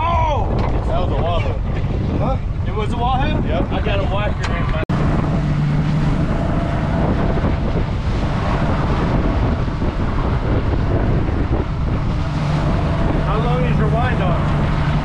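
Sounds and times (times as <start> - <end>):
water rushing along hull: 0.0 - 15.0
wind on microphone: 0.0 - 15.0
outboard motor running: 1.1 - 15.0.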